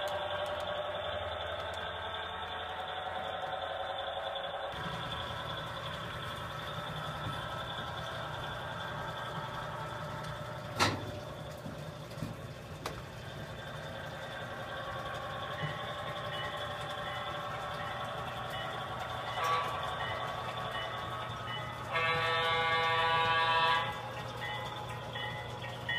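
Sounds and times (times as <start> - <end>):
model trains running on track: 0.0 - 25.9.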